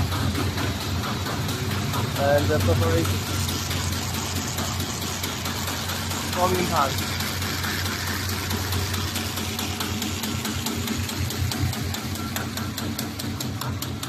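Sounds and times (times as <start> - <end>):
rapid mechanical clicking: 0.0 - 14.0.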